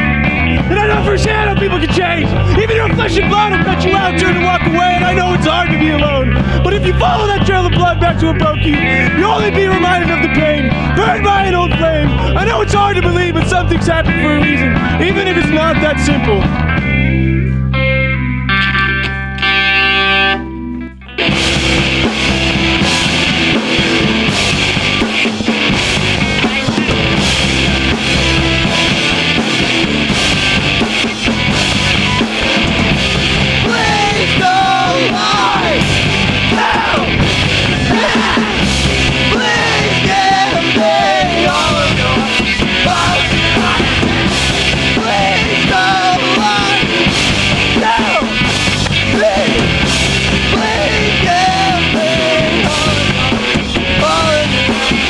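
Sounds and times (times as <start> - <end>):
drum kit pounding: 0.0 - 17.6, 21.2 - 55.0
bending melodic guitar line: 0.0 - 55.0
distorted electric guitars: 0.0 - 55.0
punk rock band playing live: 0.0 - 55.0.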